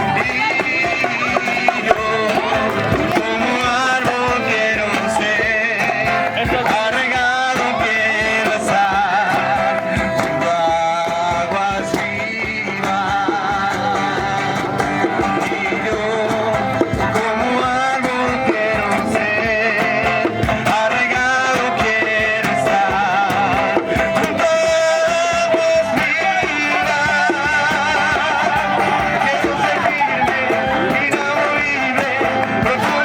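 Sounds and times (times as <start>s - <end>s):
group singing worship song: 0.0s - 33.0s
guitar accompaniment: 0.0s - 33.0s.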